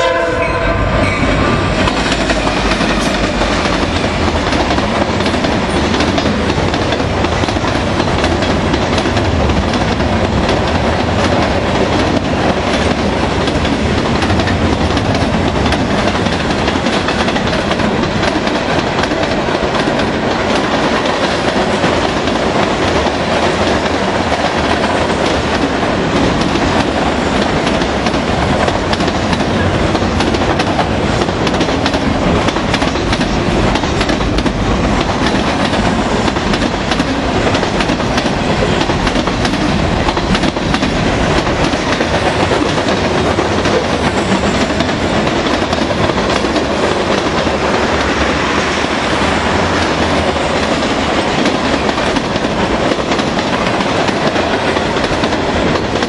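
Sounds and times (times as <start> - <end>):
diesel locomotive passing: 0.0 - 56.0
train wheels clattering on rails: 0.0 - 56.0.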